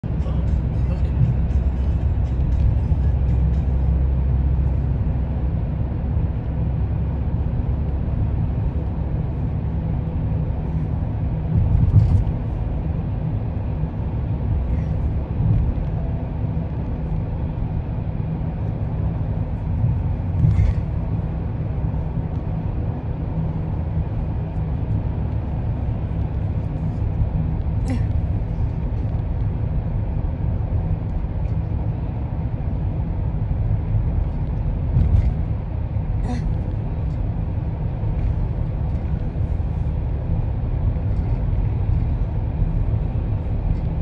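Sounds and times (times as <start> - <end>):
car cabin rumble: 0.0 - 44.0.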